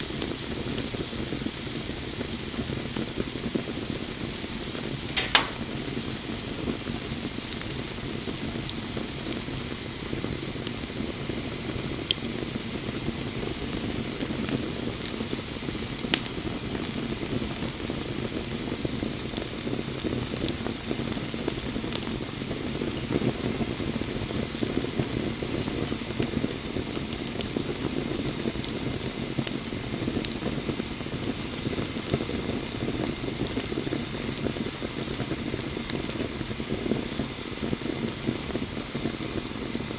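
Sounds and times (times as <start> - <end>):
bonfire flame hiss: 0.0 - 39.9
fire crackling and popping: 0.0 - 39.9.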